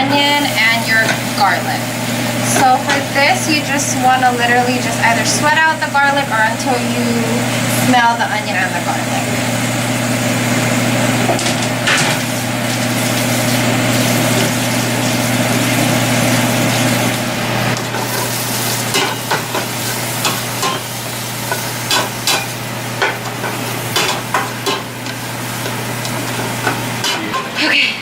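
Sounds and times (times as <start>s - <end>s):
onion and garlic sizzling in oil: 0.0s - 27.8s.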